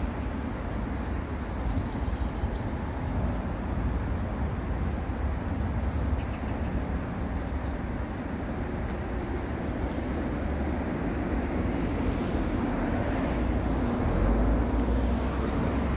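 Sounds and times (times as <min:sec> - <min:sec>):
low rumble under bridges: 0:00.0 - 0:15.9.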